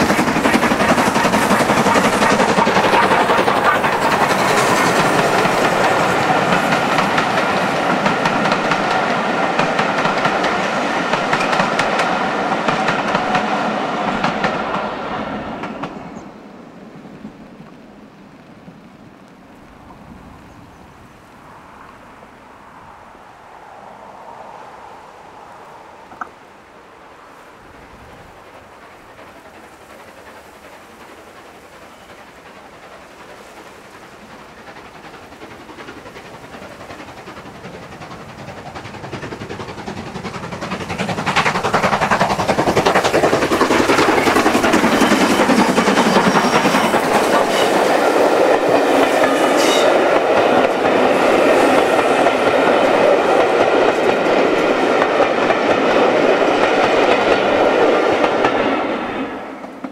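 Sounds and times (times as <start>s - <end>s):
train wheels clattering: 0.0s - 16.2s, 27.8s - 59.9s
steam locomotive passing: 0.0s - 59.9s.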